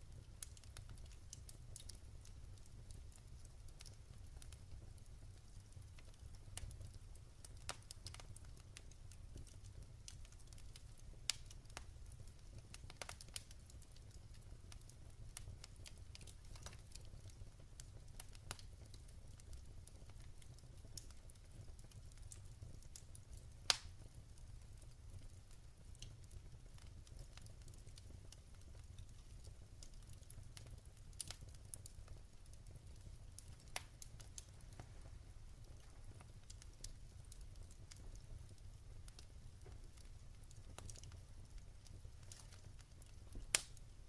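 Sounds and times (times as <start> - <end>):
low rumble of flames: 0.0 - 44.0
wood fire crackling and popping: 0.0 - 44.0.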